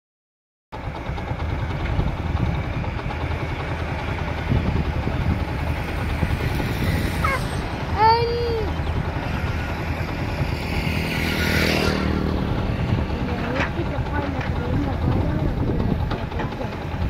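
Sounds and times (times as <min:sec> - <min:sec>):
heavy diesel machinery rumbling: 0:00.8 - 0:17.0.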